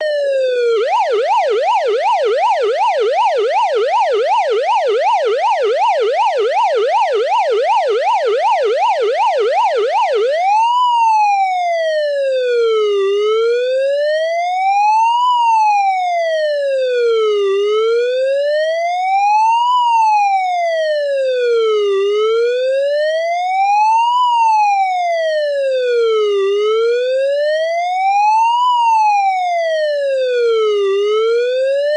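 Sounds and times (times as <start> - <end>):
police siren: 0.0 - 31.9.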